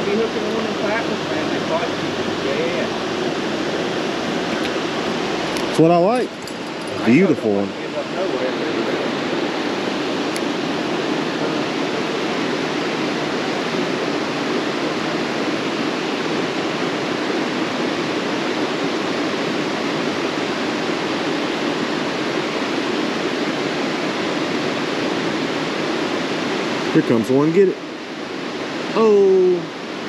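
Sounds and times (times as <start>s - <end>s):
creek rushing over riffles: 0.0s - 30.0s.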